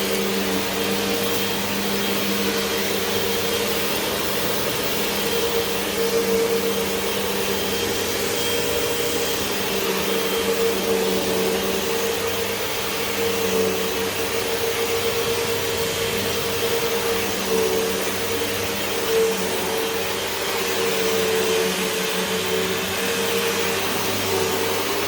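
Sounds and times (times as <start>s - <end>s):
vacuum cleaner running on carpet: 0.0s - 25.0s.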